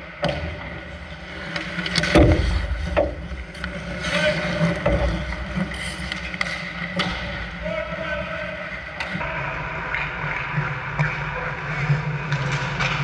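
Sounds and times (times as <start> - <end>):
hockey sticks and puck clacking: 0.0 - 13.0
skates scraping ice: 0.1 - 13.0.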